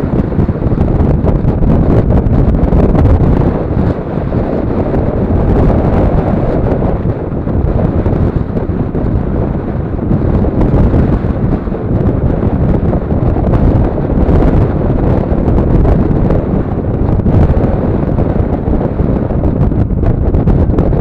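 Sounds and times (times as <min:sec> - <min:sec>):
vehicle driving on road: 0:00.0 - 0:21.0
wind buffeting microphone: 0:00.0 - 0:21.0.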